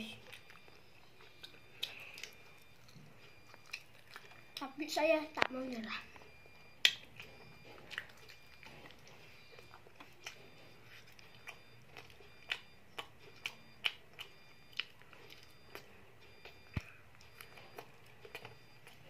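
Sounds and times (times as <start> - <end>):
child chewing food: 0.0 - 19.0.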